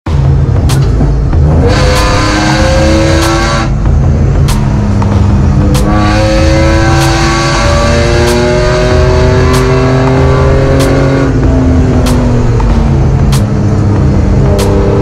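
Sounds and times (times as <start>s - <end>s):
car engine pulling: 0.1s - 15.0s.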